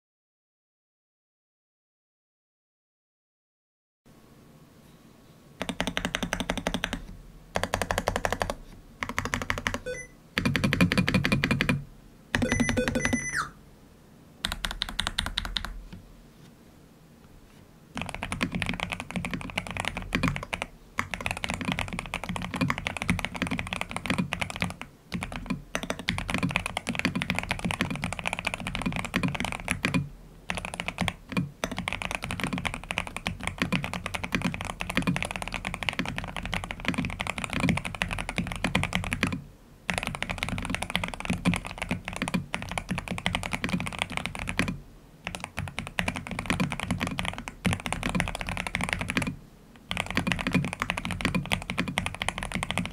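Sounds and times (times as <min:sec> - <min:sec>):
mechanical keyboard typing: 0:05.6 - 0:13.4, 0:14.4 - 0:15.8, 0:18.0 - 0:52.9.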